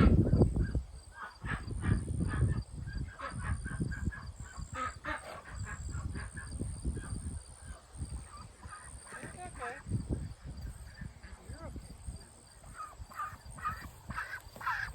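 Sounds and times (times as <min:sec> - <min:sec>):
ducks quacking: 0:00.0 - 0:09.9, 0:10.7 - 0:11.9, 0:12.6 - 0:14.9.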